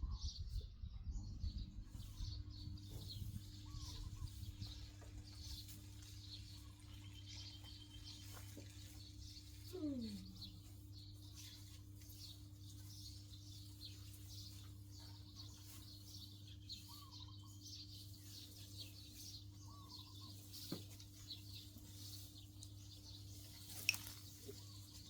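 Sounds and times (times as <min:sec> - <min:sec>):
faint bird chirps: 0:00.0 - 0:25.0
steady low hum: 0:00.0 - 0:25.0.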